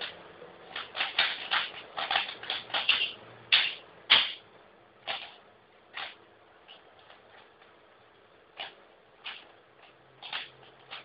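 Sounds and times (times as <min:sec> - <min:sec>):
plastic puzzle cube clacking: 0:00.0 - 0:04.4, 0:05.0 - 0:07.7, 0:08.6 - 0:11.0.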